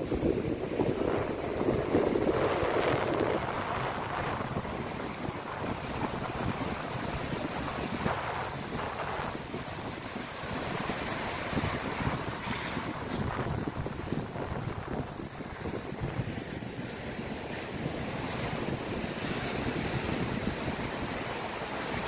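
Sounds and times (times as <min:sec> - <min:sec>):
ocean waves breaking: 0:00.0 - 0:22.0
wind rumbling on microphone: 0:00.0 - 0:22.0.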